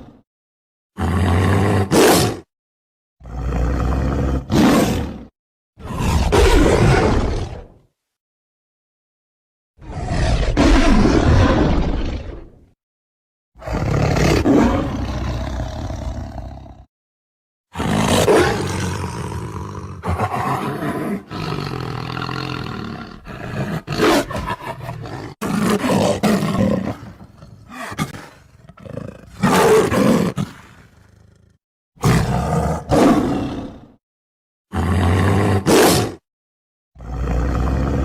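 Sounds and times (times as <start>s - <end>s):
deep monster growls and roars: 1.0s - 2.5s, 3.2s - 7.9s, 9.8s - 12.8s, 13.6s - 16.9s, 17.7s - 34.0s, 34.7s - 36.3s, 37.0s - 38.0s.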